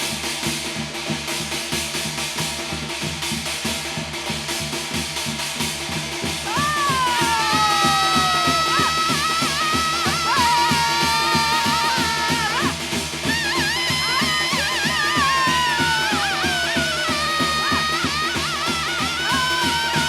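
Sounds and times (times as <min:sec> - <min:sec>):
busy drumming: 0:00.0 - 0:20.0.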